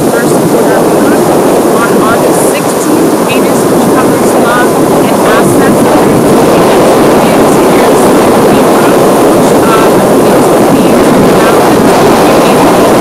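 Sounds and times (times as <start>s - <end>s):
wind buffeting microphone: 0.0s - 13.0s
woman talking: 0.0s - 13.0s.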